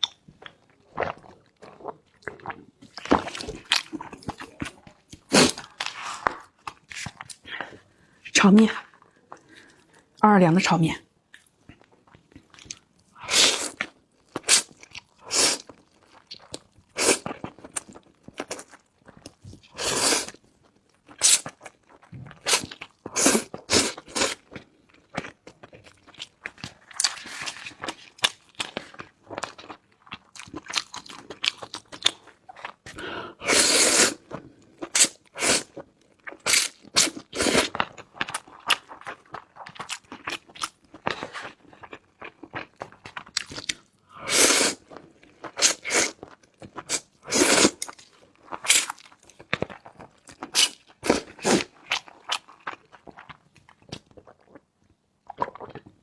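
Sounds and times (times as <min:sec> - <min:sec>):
person chewing noodles: 0:00.0 - 0:07.7, 0:11.4 - 0:54.6, 0:55.2 - 0:56.0.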